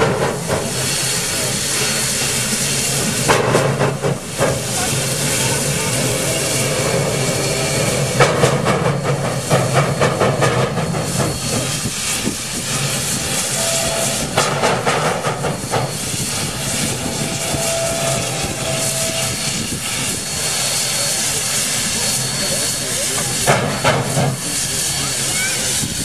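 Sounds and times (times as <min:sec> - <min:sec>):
locomotive exhaust chuffs: 0:00.0 - 0:26.0
steam locomotive hissing: 0:00.0 - 0:26.0.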